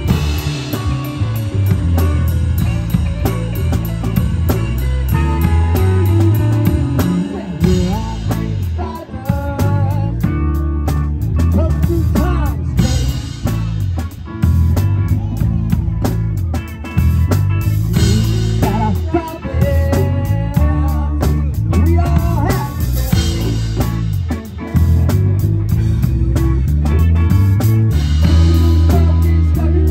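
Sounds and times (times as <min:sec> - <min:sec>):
drum kit with cymbal crashes: 0:00.0 - 0:29.9
electric guitar: 0:00.0 - 0:29.9
heavy bass line: 0:00.0 - 0:29.9.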